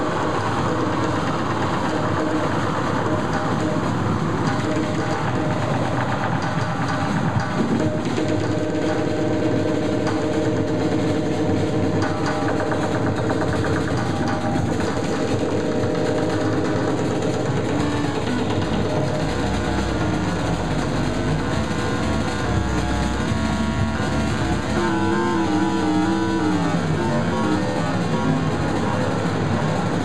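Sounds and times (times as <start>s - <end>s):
distorted noise music drone: 0.0s - 30.0s.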